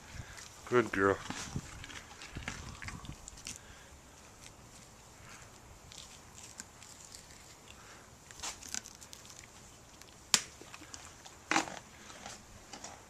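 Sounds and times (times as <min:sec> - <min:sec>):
horse crunching a hard treat: 0:00.3 - 0:03.7, 0:04.3 - 0:13.0.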